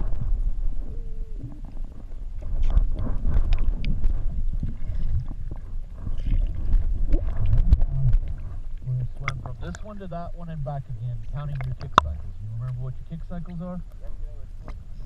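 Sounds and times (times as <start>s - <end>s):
water sloshing and splashing: 0.0s - 13.2s
heavy low rumble: 0.0s - 15.0s.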